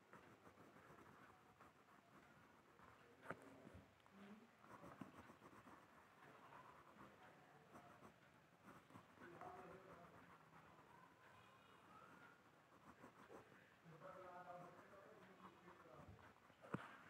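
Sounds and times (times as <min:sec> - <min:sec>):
pencil shading on paper: 0:00.0 - 0:03.8, 0:04.6 - 0:17.0.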